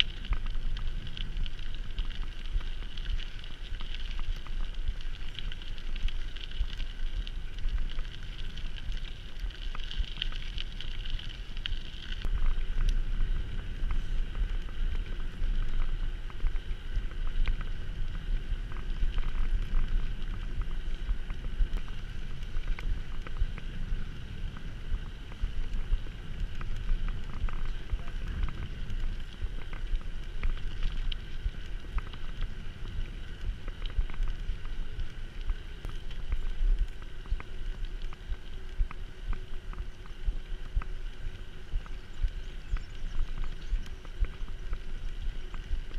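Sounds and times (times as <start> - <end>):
bike rattling: 0.0 - 40.4
wind rumbling on microphone: 0.0 - 45.9.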